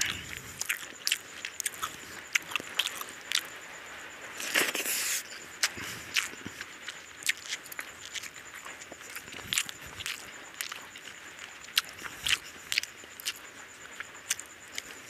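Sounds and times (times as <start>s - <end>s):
wet chewing and smacking: 0.0s - 3.6s, 4.4s - 15.0s.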